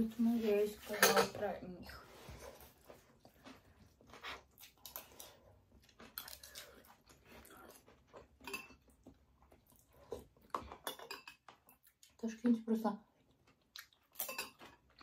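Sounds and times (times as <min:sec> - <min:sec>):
people chewing: 0:01.9 - 0:15.0.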